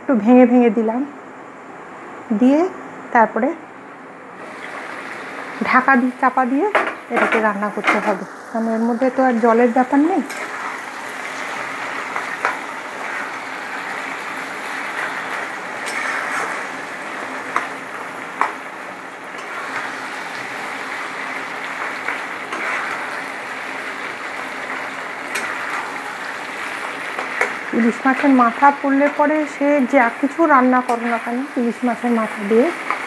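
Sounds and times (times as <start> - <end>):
food sizzling in oil: 4.4 - 33.0.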